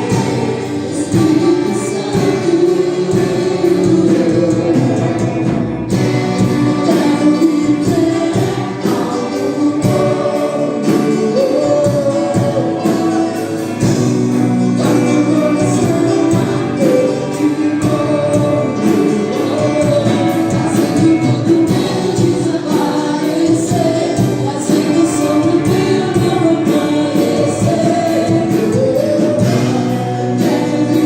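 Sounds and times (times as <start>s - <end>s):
band accompaniment with steady beat: 0.0s - 31.0s
group singing gospel: 0.0s - 31.0s.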